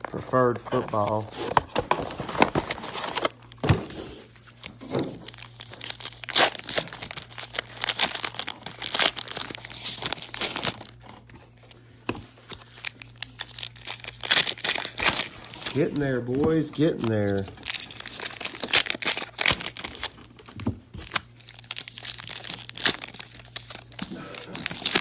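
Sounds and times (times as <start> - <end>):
packaging tearing and crinkling: 0.9 - 3.4, 4.8 - 11.1, 12.5 - 25.0.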